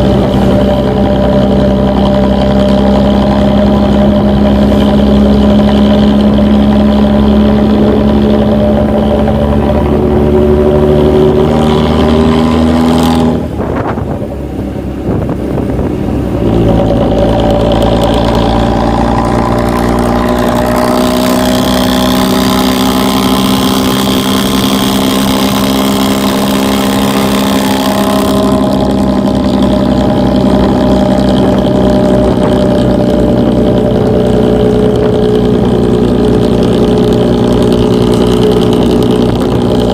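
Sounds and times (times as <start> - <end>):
diesel bus engine revving: 0.0 - 39.9.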